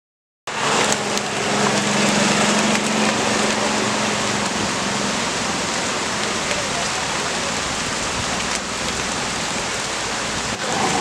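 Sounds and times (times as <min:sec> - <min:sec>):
rain hissing: 0:00.5 - 0:11.0.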